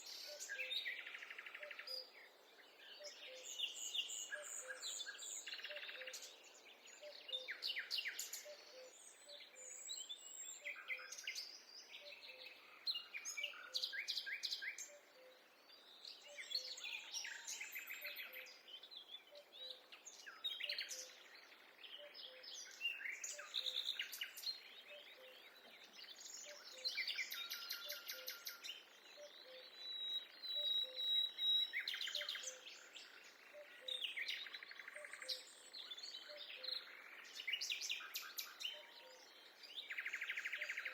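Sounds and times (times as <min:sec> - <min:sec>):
songbirds singing and calling: 0:00.0 - 0:40.9.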